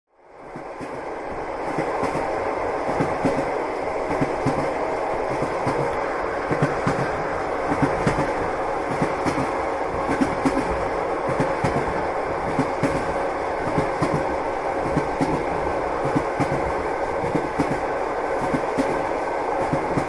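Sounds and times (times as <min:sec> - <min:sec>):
train wheels rumbling on rails: 0:00.1 - 0:20.0.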